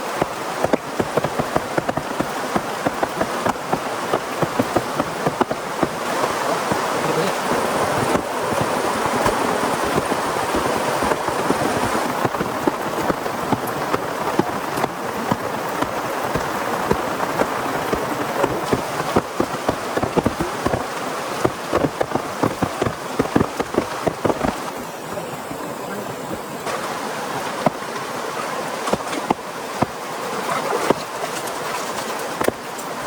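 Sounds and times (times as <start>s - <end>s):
heavy rain falling: 0.0s - 33.0s
raindrops ticking: 0.0s - 33.0s.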